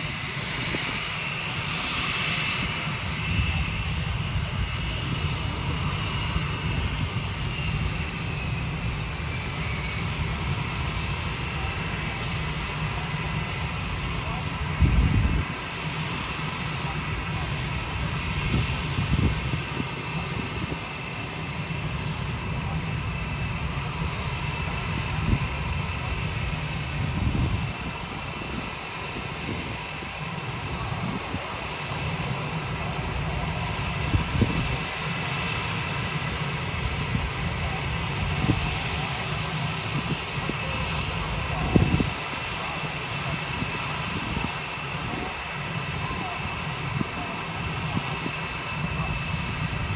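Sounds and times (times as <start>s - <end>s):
jet engines running: 0.0s - 49.9s
wind buffeting microphone: 0.0s - 49.9s.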